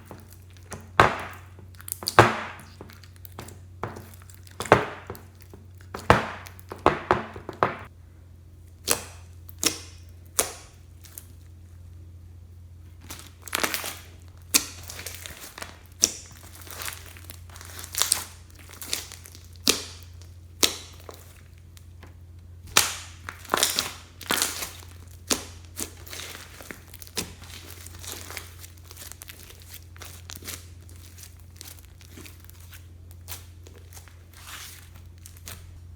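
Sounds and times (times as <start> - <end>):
slime squished by hand: 0.0 - 7.6, 8.6 - 11.6, 12.9 - 22.0, 22.6 - 35.9
faint low hum: 0.0 - 35.9.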